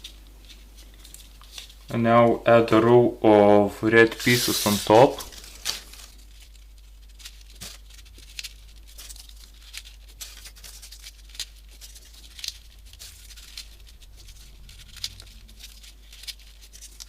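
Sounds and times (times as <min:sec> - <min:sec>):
paper rustling and clicking: 0:00.0 - 0:01.9, 0:04.2 - 0:17.0.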